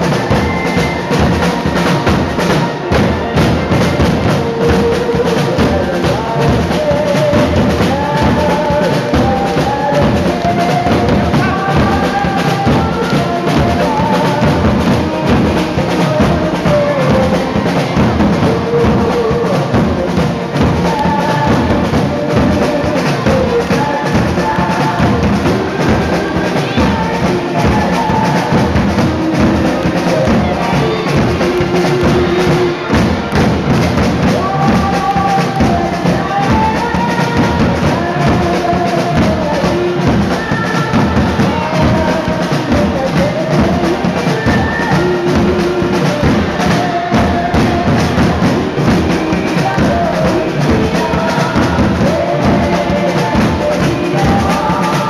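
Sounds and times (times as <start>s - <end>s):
samba drum and percussion music: 0.0s - 55.0s.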